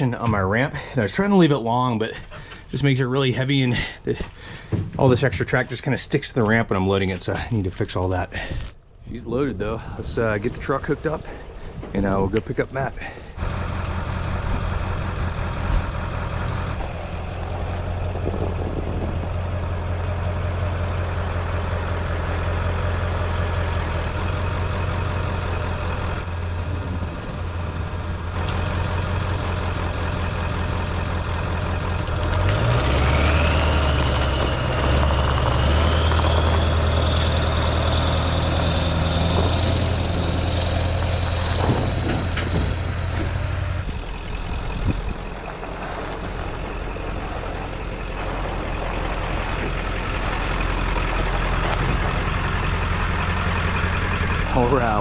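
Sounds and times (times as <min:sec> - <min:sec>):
diesel pickup engine running: 0:09.3 - 0:55.0.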